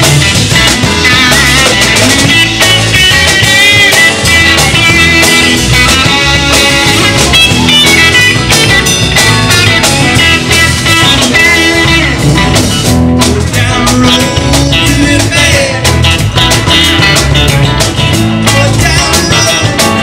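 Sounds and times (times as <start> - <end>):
rock and blues band music: 0.0 - 20.0.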